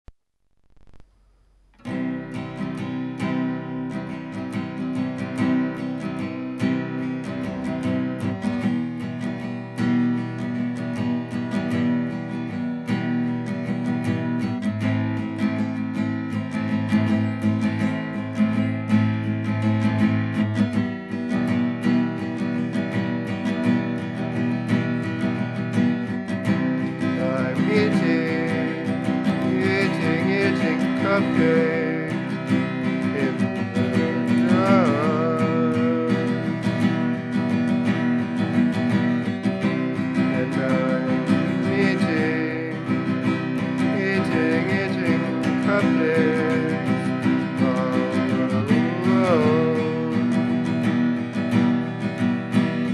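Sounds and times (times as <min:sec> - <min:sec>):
acoustic guitar strumming: 0:00.5 - 0:52.9.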